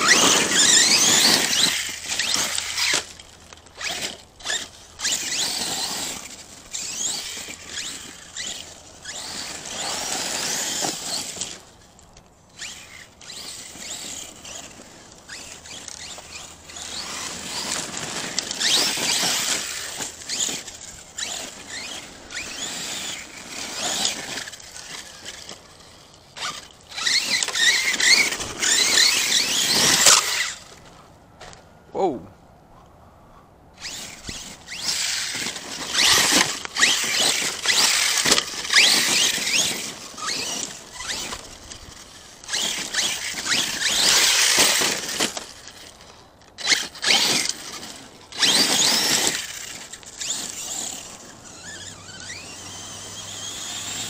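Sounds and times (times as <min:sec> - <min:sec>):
electric motor whining: 0:00.0 - 0:11.8, 0:12.5 - 0:30.9, 0:33.8 - 0:54.0
tyres scrabbling over gravel: 0:00.0 - 0:31.7, 0:33.8 - 0:54.0.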